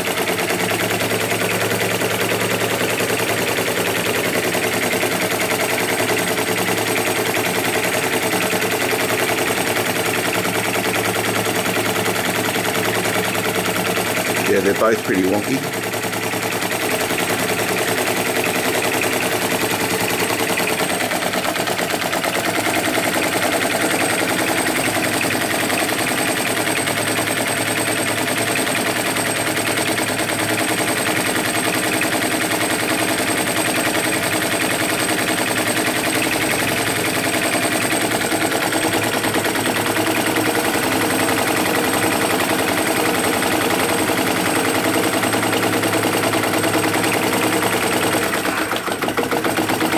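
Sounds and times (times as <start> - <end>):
small engine rapid clatter: 0.0 - 49.9.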